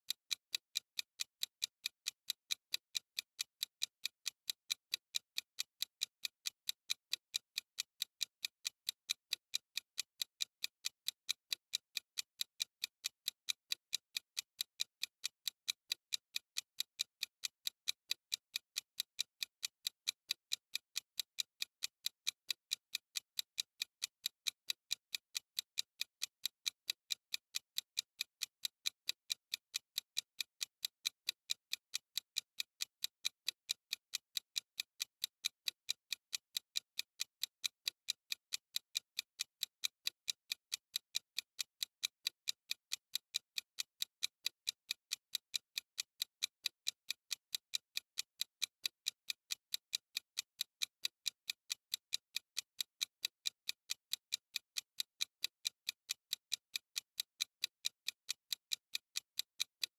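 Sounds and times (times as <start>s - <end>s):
clock ticking: 0.1s - 59.9s.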